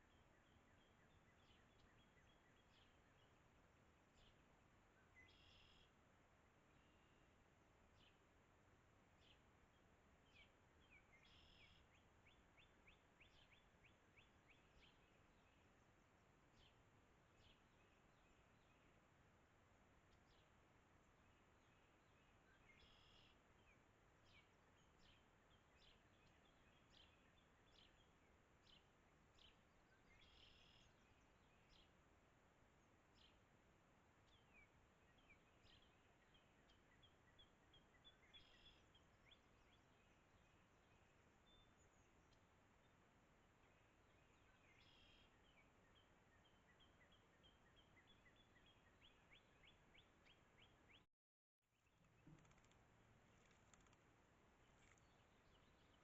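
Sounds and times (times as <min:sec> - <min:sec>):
bird chirping: 0:00.0 - 0:06.0, 0:09.2 - 0:19.1, 0:19.7 - 0:32.0, 0:34.2 - 0:51.1, 0:51.7 - 0:56.0
steady low hiss: 0:00.0 - 0:51.0, 0:51.9 - 0:56.0.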